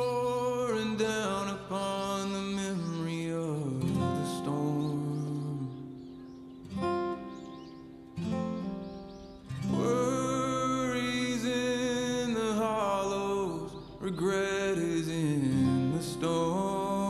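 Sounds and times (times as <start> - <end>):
slow song with acoustic guitar: 0.0 - 17.0.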